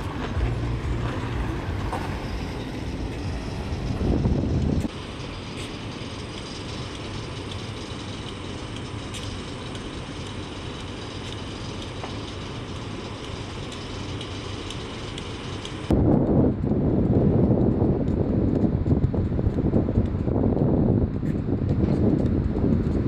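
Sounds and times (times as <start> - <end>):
electric locomotive hum: 0.0 - 23.0.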